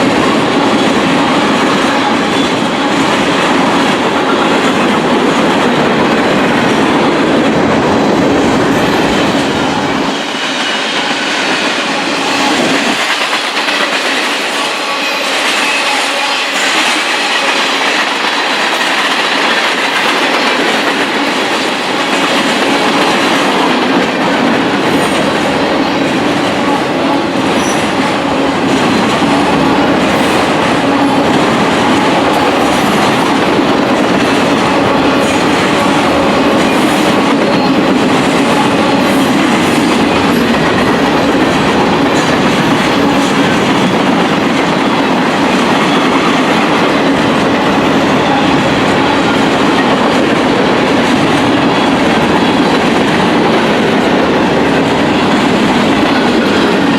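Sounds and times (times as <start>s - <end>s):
train wheels running over rails: 0.0s - 56.9s.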